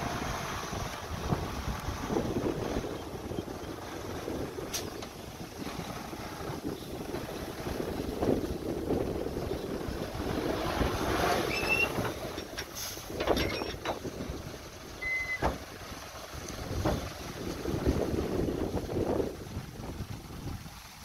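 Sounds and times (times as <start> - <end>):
wind on microphone: 0.0 - 21.0.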